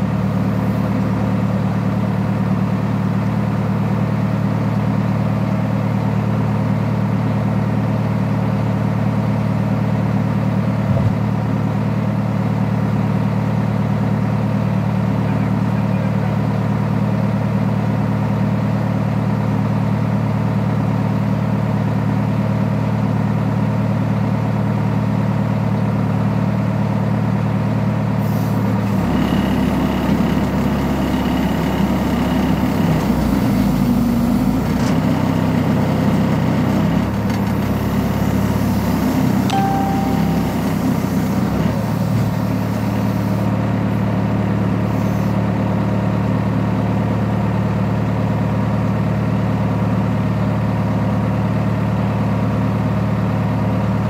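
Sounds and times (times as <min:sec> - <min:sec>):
heavy vehicle engine idling: 0:00.0 - 0:54.0.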